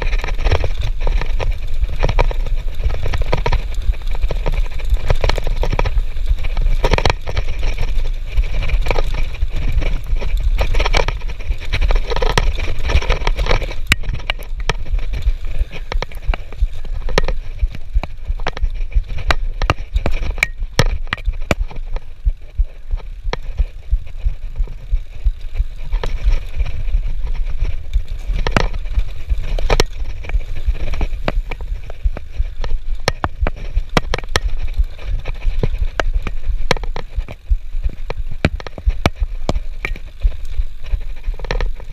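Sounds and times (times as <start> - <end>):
bike clacking and rattling: 0.0 - 41.9
wind rumble on microphone: 0.0 - 41.9.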